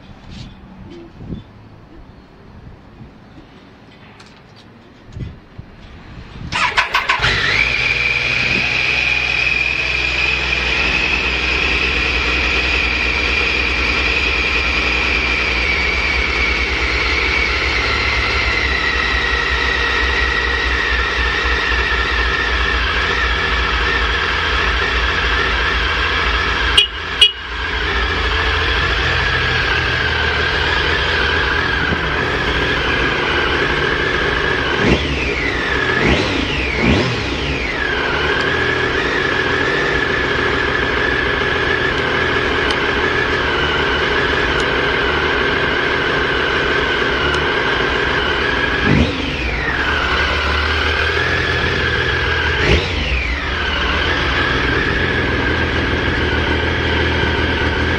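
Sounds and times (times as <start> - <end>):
motorcycle engine idling and revving: 5.3 - 57.9.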